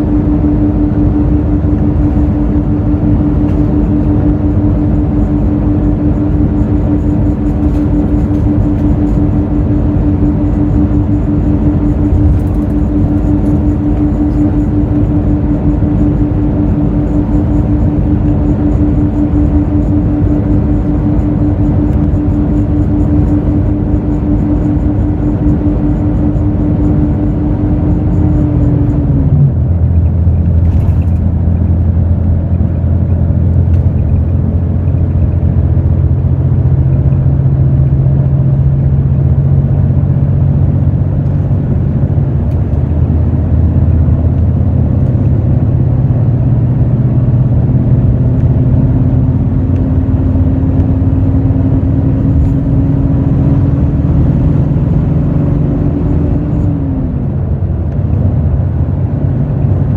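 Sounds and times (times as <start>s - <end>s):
bus diesel engine running: 0.0s - 59.9s
high whine: 0.0s - 59.9s.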